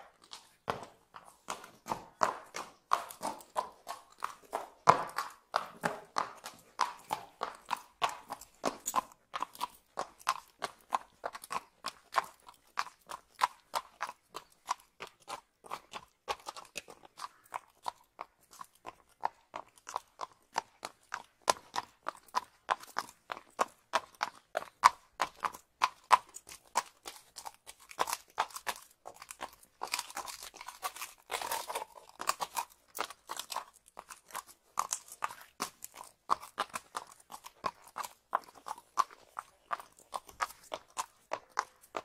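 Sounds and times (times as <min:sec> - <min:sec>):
horse hooves clip-clopping on pavement: 0:00.0 - 0:42.0.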